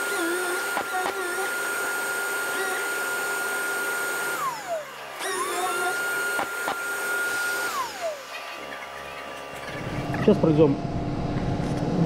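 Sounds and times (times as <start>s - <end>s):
orbital sander whine: 0.0s - 12.0s.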